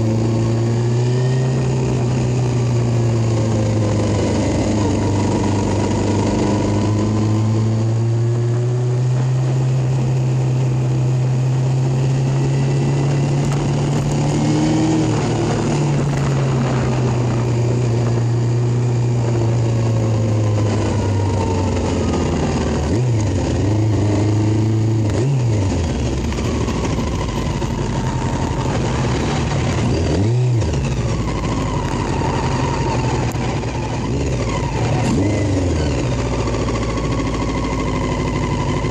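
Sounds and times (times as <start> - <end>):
small motorcycle engine running: 0.0 - 38.9.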